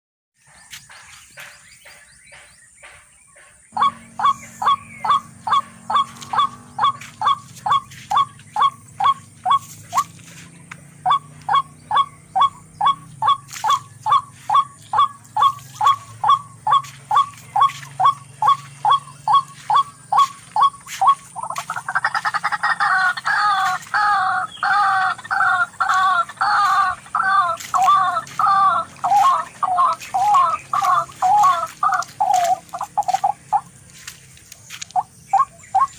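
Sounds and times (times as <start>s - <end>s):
rail bird calling: 0.4s - 35.9s.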